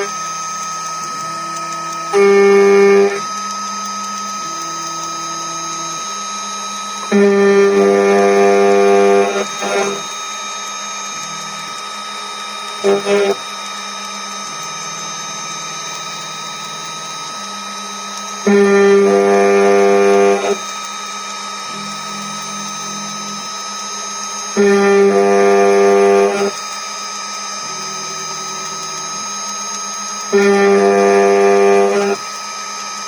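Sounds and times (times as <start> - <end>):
cutter buzzing on metal: 0.0 - 33.0
router spindle high whine: 0.0 - 33.0.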